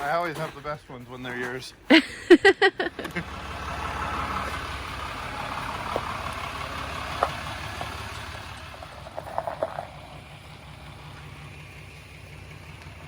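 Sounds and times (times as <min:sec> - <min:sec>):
truck engine low rumble: 0:01.8 - 0:13.0.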